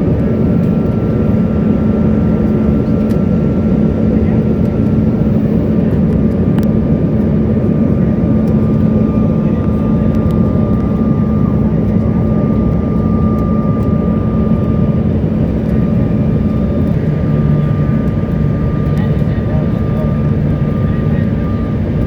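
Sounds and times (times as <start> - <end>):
jet cabin airflow and engines: 0.0 - 22.0
steady low hum: 0.0 - 22.0.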